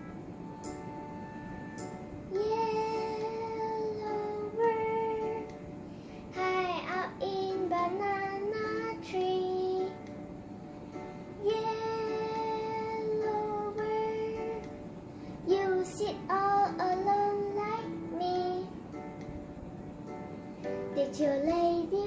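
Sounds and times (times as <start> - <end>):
soft accompaniment: 0.0 - 22.0
child singing slow melody: 1.8 - 22.0.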